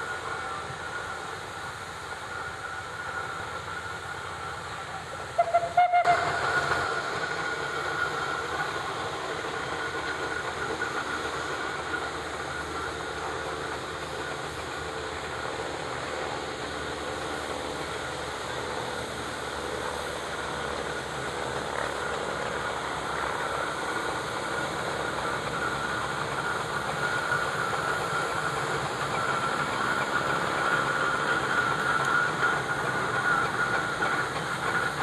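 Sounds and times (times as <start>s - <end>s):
steam engine hissing: 0.0s - 35.0s.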